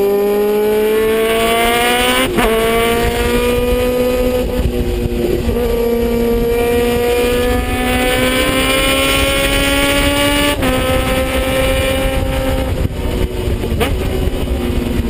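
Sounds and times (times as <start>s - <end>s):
motorcycle engine accelerating: 0.0s - 15.0s
wind rushing over microphone: 0.0s - 15.0s.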